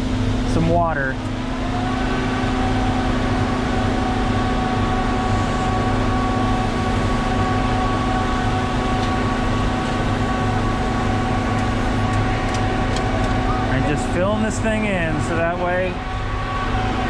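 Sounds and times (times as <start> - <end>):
concrete mixer truck running: 0.0 - 17.0
whining tones: 1.2 - 17.0.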